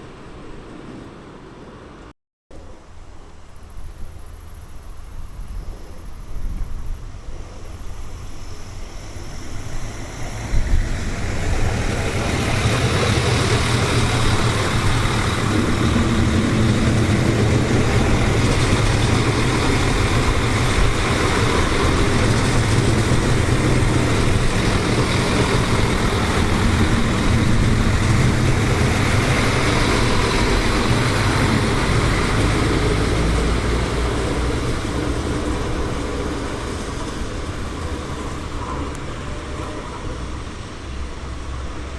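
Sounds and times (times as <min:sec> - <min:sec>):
train passing: 0:07.4 - 0:41.9.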